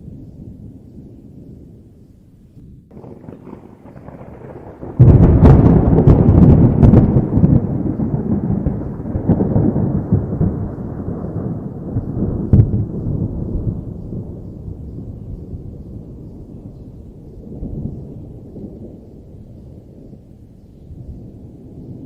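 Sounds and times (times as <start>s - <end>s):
thunder crack and rumble: 0.0s - 22.0s.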